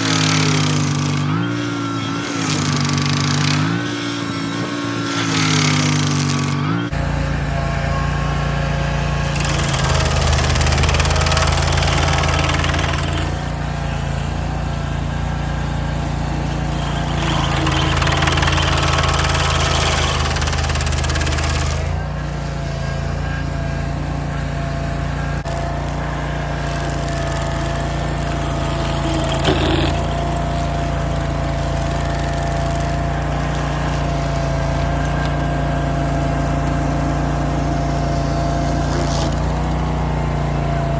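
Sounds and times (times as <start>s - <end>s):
cutter wheel grinding stump: 0.0s - 40.9s
stump grinder engine running: 0.0s - 40.9s.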